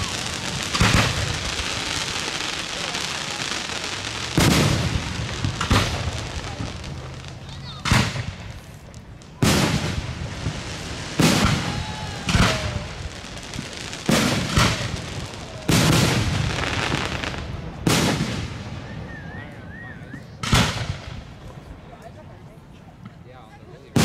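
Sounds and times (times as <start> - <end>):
fireworks booming with echo: 0.0 - 19.4, 20.4 - 21.5.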